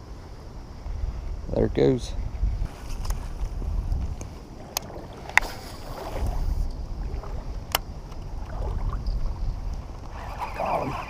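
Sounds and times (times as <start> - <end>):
water around kayak: 0.0 - 11.0.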